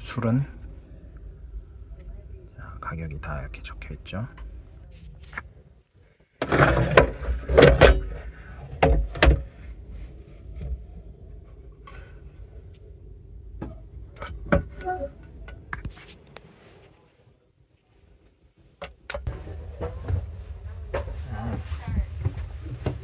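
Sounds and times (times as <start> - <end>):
low steady rumble: 0.0 - 18.6, 19.2 - 23.0.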